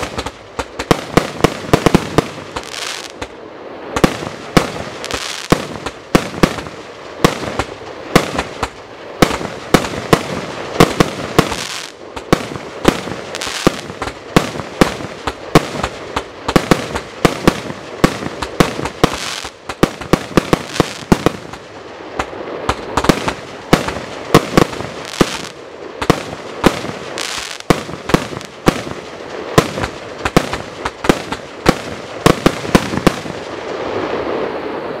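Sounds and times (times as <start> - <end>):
fireworks barrage of sharp shots: 0.0 - 34.5.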